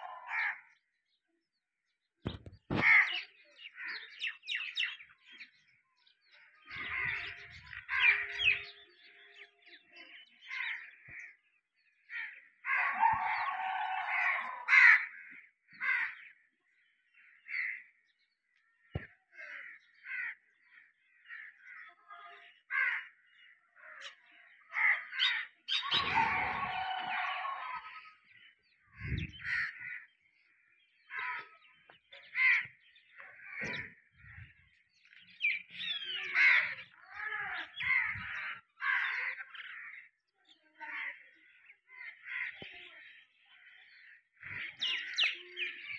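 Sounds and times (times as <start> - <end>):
birds calling: 0.0 - 0.8, 2.3 - 45.9.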